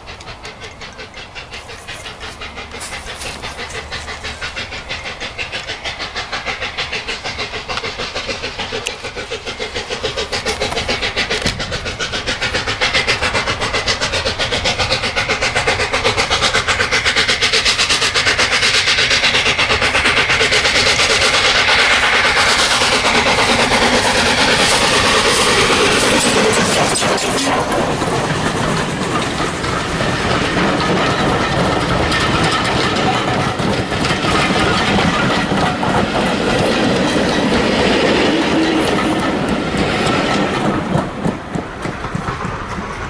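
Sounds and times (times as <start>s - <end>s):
steam locomotive exhaust beating: 0.0s - 43.0s.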